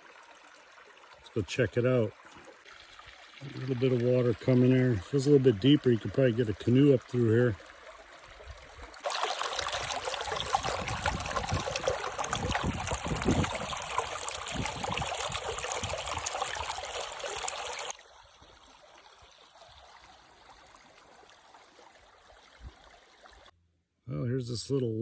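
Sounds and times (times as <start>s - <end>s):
creek trickling and gurgling: 0.0s - 23.5s.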